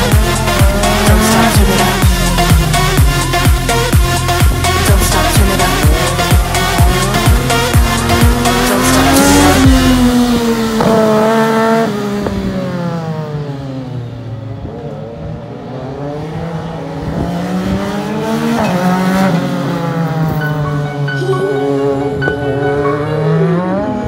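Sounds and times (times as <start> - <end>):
race car engine passing: 0.0 - 24.0.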